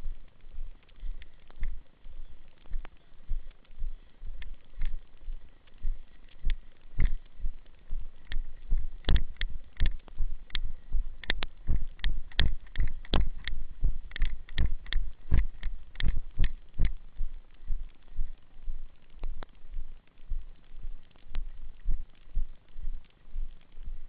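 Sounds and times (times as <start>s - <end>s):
footsteps: 0.0s - 24.0s.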